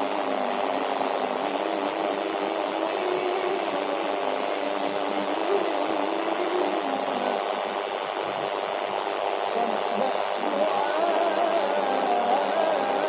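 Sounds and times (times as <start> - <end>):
steady whirring with wavering tones: 0.0 - 13.0.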